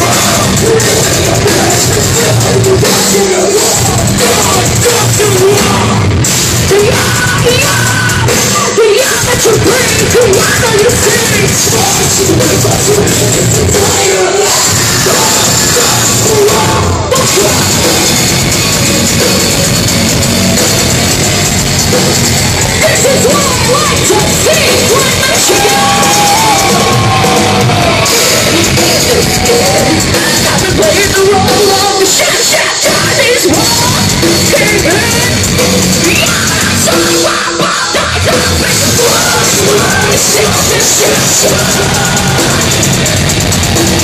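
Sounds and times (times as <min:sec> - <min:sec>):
women singing and yelling: 0:00.0 - 0:17.9, 0:22.6 - 0:43.0
distorted electric guitar: 0:00.0 - 0:44.0
pounding drum kit: 0:00.0 - 0:44.0.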